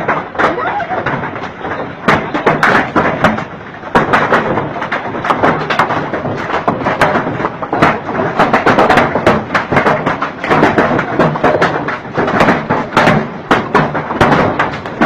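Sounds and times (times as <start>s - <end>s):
sharp knocks and thuds: 0.0s - 15.0s.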